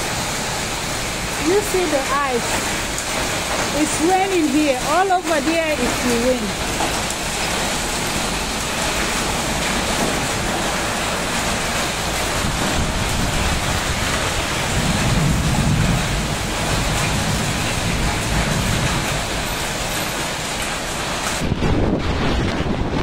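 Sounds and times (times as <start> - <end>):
heavy rain on pavement: 0.0 - 23.0
wind buffeting microphone: 3.3 - 19.9, 21.0 - 23.0.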